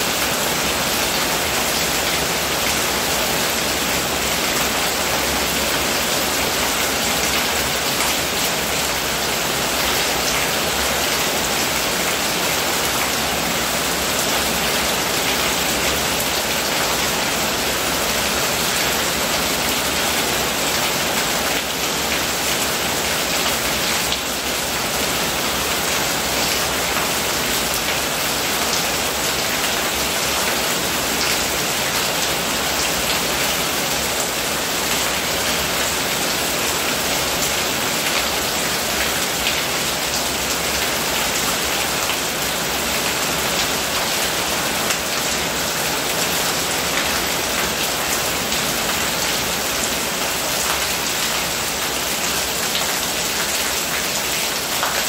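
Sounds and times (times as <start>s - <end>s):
rain falling on roofs: 0.0s - 55.0s.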